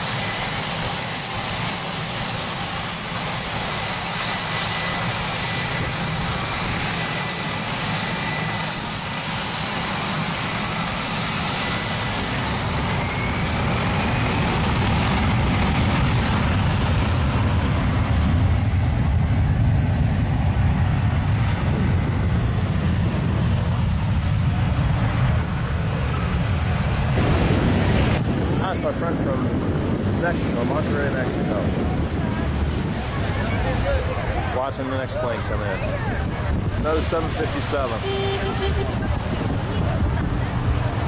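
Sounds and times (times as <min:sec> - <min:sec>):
jet blast roar: 0:00.0 - 0:41.0
jet turbine whine: 0:00.0 - 0:41.0.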